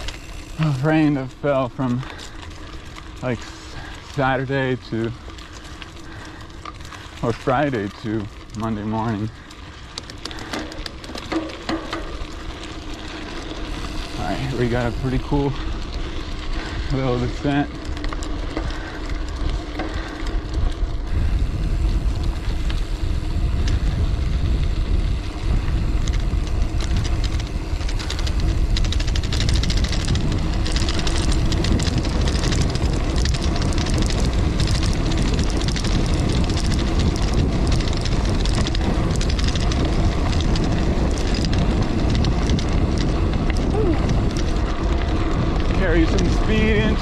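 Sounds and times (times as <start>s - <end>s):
bike clicks and rattles: 0.0s - 47.0s
tyres rolling over dirt trail: 0.0s - 47.0s
wind buffeting microphone: 0.0s - 47.0s.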